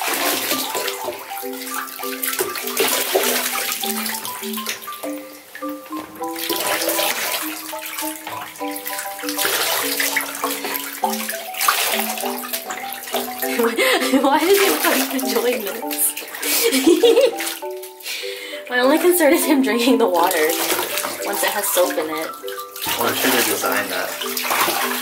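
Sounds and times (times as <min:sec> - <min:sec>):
background music melody: 0:00.0 - 0:25.0
water splashing into bathwater: 0:00.0 - 0:25.0.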